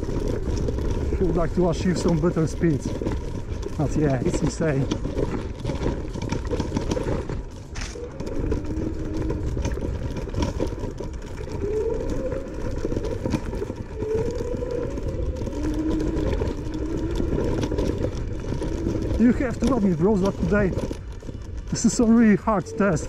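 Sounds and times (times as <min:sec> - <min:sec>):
scooter rumble and rattles: 0:00.0 - 0:23.0.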